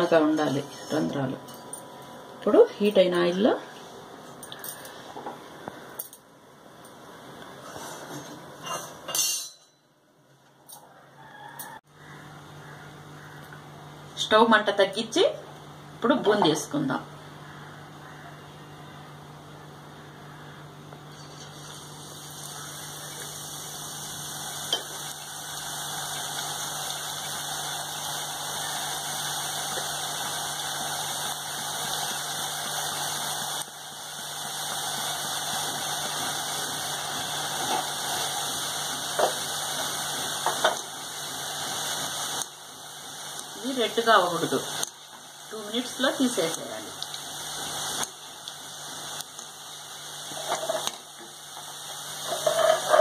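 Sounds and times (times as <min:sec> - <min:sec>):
hot oil sizzling: 0:00.0 - 0:09.8, 0:10.8 - 0:53.0.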